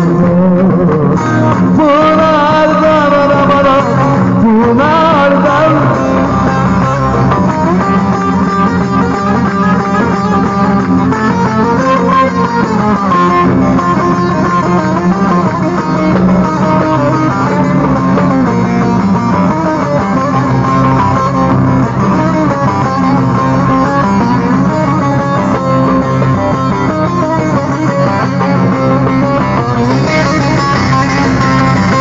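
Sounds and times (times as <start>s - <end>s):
low accompaniment: 0.0s - 32.0s
plucked string instruments melody: 0.0s - 32.0s.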